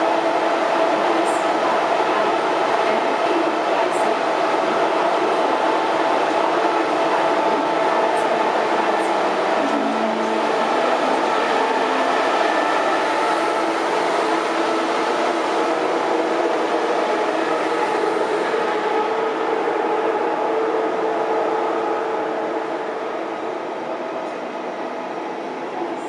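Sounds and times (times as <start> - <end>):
train rolling past: 0.0 - 26.0.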